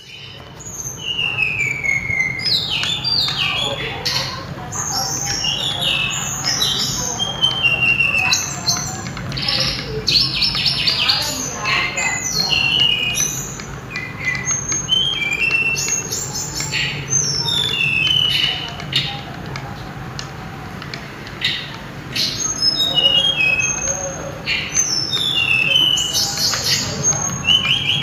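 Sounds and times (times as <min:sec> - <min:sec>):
bird whistling song: 0:00.0 - 0:19.1, 0:21.4 - 0:28.0.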